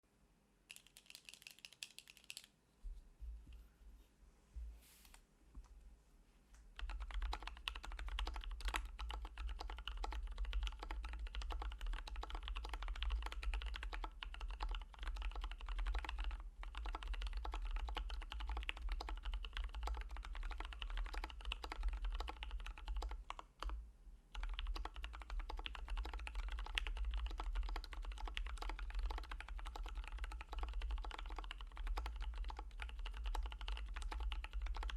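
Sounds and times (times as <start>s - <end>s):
mechanical keyboard typing: 0.7s - 2.5s, 6.8s - 34.9s.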